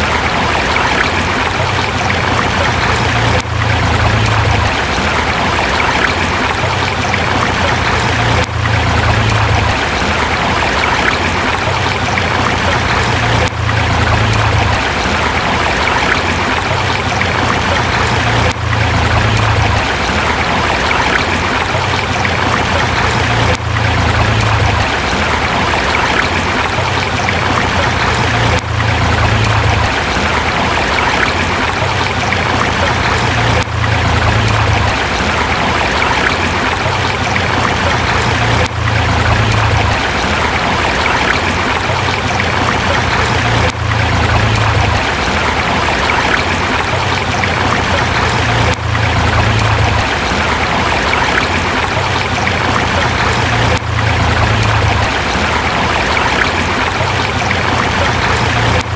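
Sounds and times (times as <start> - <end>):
river rushing over rocks: 0.0 - 58.9.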